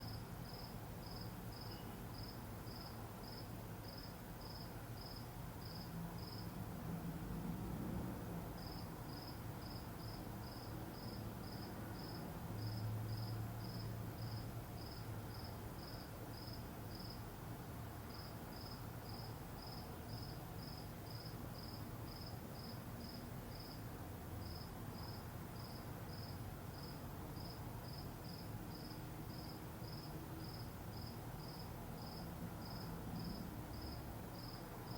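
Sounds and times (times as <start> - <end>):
cricket chirping: 0.0 - 6.6, 8.6 - 17.2, 18.1 - 34.9.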